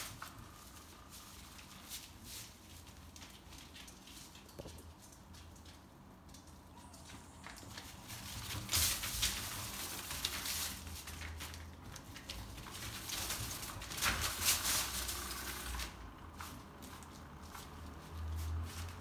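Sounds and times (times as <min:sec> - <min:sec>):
animals scuffling and rustling: 0:00.0 - 0:19.0.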